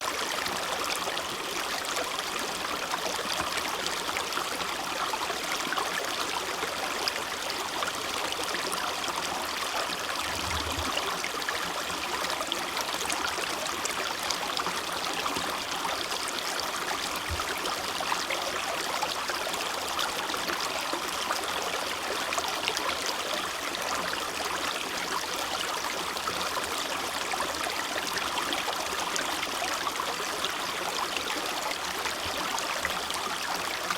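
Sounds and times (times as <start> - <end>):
creek water running: 0.0 - 33.9.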